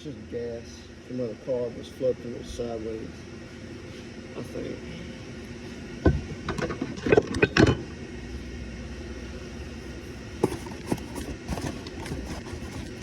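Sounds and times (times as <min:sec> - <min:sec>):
low workshop rumble: 0:00.0 - 0:13.0.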